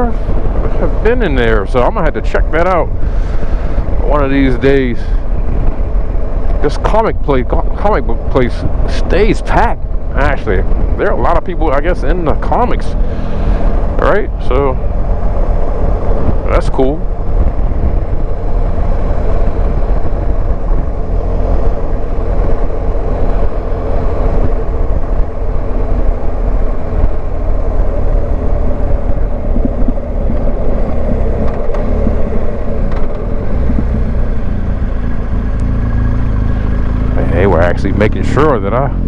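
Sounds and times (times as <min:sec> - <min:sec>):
motorcycle engine running: 0:00.0 - 0:39.0
road noise: 0:00.0 - 0:39.0
wind noise: 0:00.0 - 0:39.0.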